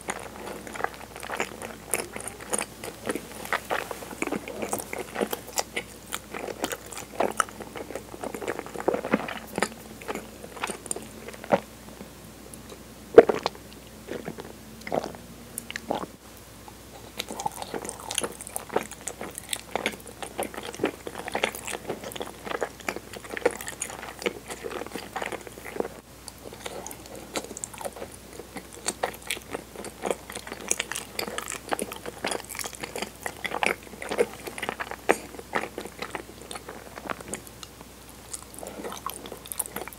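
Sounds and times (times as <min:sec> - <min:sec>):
chewing: 0:00.0 - 0:16.1, 0:16.9 - 0:39.9.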